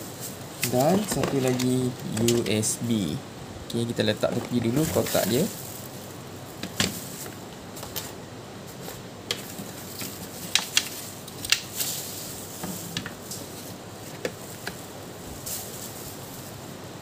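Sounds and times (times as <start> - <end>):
plastic bag crinkling: 0.6 - 2.5, 4.2 - 16.7.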